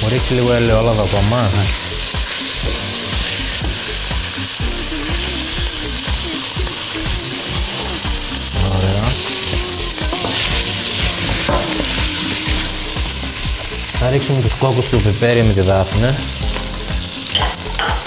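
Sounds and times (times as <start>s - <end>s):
fish and oil sizzling: 0.0s - 18.0s.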